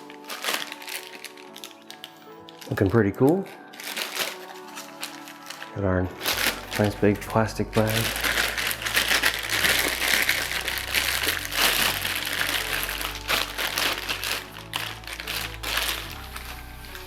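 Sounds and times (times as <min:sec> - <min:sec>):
background music: 0:00.0 - 0:17.0
plastic bag crinkling: 0:00.0 - 0:17.0.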